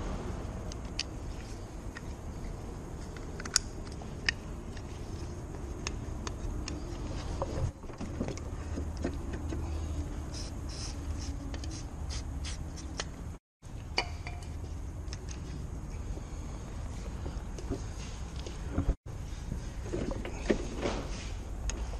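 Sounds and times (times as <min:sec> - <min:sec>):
low background rumble: 0:00.0 - 0:20.7.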